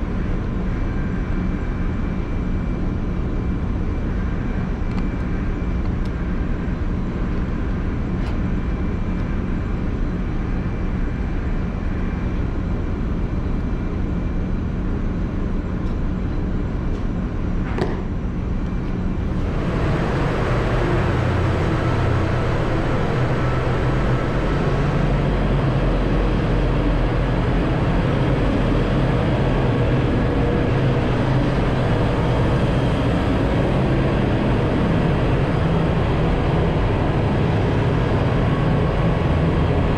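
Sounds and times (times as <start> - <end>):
engine room noise: 0.0 - 39.9
ship machinery drone: 0.0 - 39.9.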